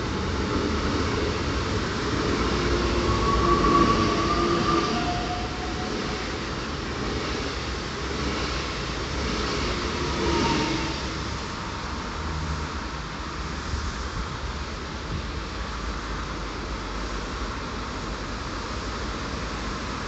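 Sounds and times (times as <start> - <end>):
busy road traffic: 0.0 - 20.0
train wheels rushing on rail: 0.0 - 20.0.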